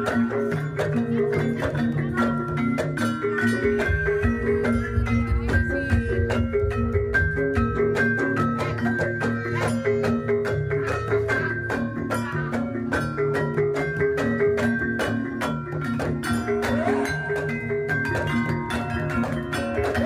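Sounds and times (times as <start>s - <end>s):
gamelan music: 0.0s - 20.0s.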